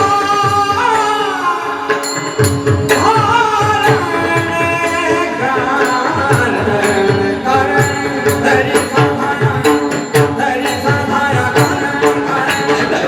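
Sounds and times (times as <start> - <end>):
people singing: 0.0 - 13.0
hand drum rhythm: 1.9 - 13.0.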